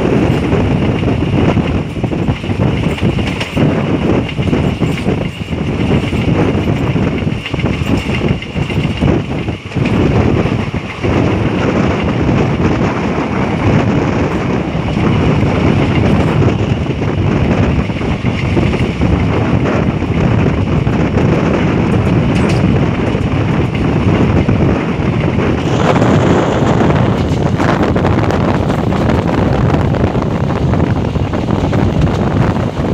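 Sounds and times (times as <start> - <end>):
train rumbling at speed: 0.0 - 32.9
wind buffeting microphone: 0.0 - 32.9.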